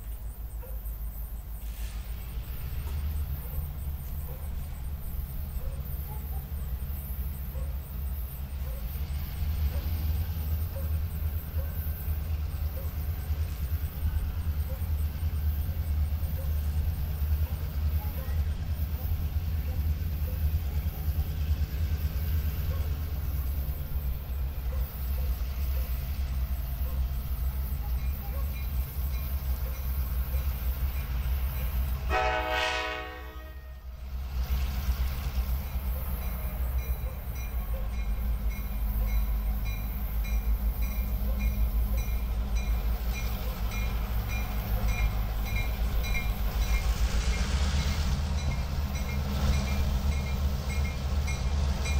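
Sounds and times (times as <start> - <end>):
diesel locomotive rumble: 0.0 - 51.9.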